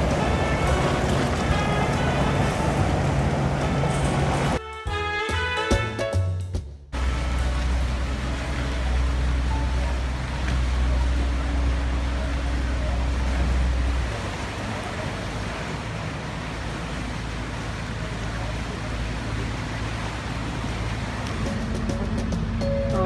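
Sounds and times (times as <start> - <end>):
water washing along hull: 0.0 - 4.6, 7.0 - 23.0
motorboat engine rumble: 0.0 - 23.0.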